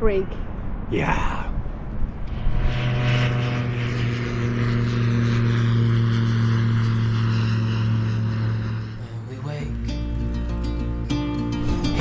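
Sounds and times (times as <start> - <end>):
propeller airplane flying by: 1.6 - 11.9.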